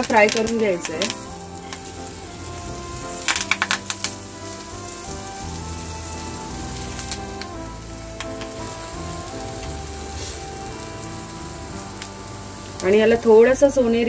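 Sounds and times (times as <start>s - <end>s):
slices frying in oil: 0.0s - 14.0s.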